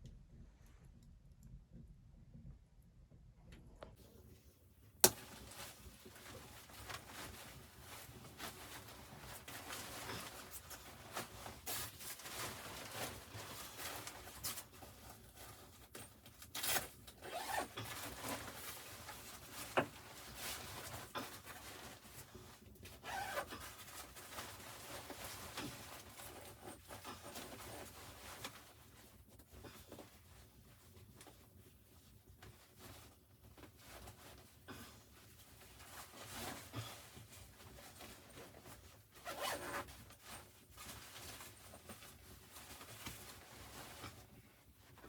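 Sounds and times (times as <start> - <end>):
rustling and scraping: 4.0 - 45.0.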